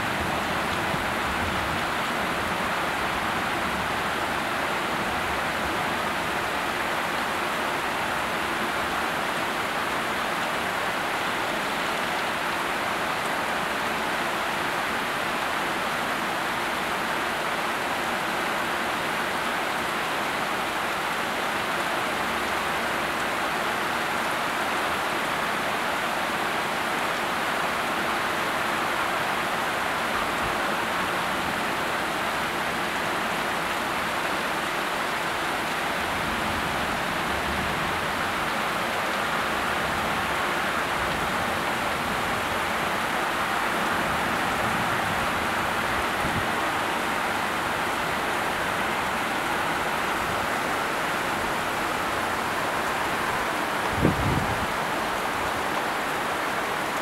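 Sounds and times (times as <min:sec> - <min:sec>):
heavy rain splashing on water: 0:00.0 - 0:57.0.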